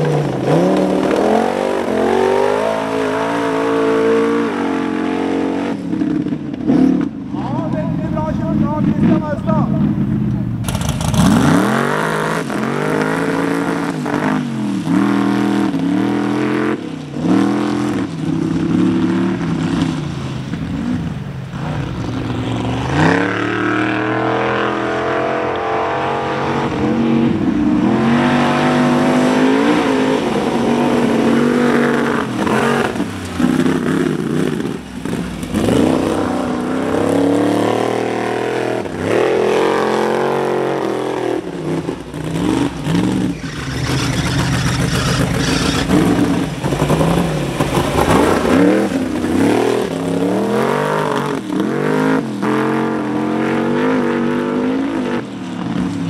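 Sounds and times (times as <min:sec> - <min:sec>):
buggy engine revving hard: 0:00.0 - 0:56.0.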